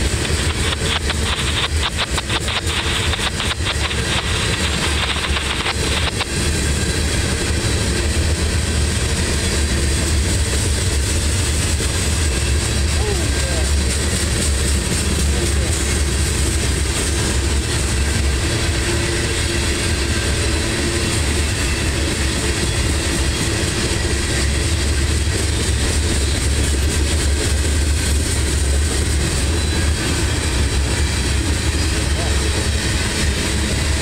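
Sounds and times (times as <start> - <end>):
freight train wheels rumbling on rail: 0.0 - 34.0.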